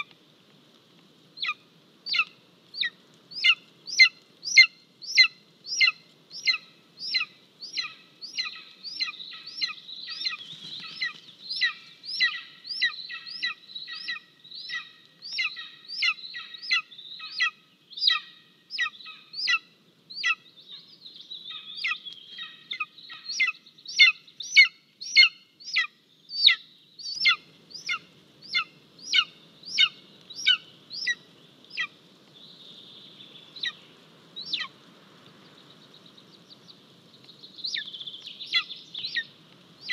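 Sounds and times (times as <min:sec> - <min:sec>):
eagle calling: 0:01.4 - 0:20.9, 0:21.5 - 0:32.0, 0:33.5 - 0:33.8, 0:34.4 - 0:34.7, 0:37.6 - 0:39.9.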